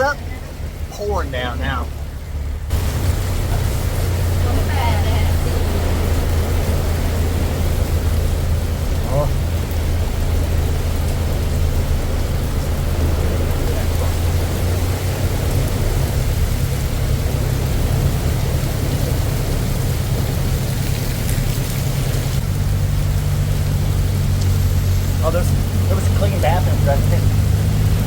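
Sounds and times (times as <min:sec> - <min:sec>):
heavy rain on a roof: 0:00.0 - 0:28.0
truck engine running: 0:00.0 - 0:28.0.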